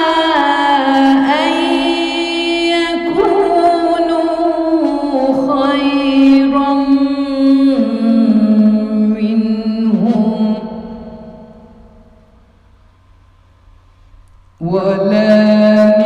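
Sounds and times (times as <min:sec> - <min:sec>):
woman reciting melodically: 0:00.0 - 0:12.1, 0:14.6 - 0:16.0.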